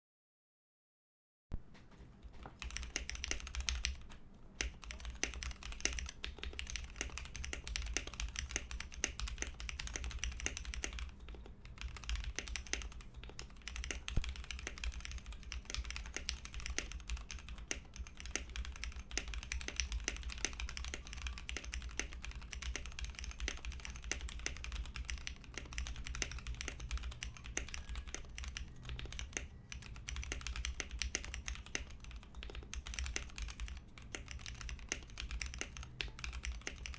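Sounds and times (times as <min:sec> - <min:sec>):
fast mechanical keyboard typing: 0:02.4 - 0:36.9.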